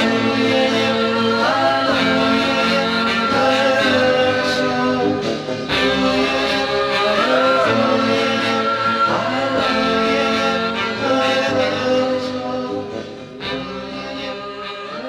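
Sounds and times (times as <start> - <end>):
harmony vocals with backing band: 0.0 - 15.0.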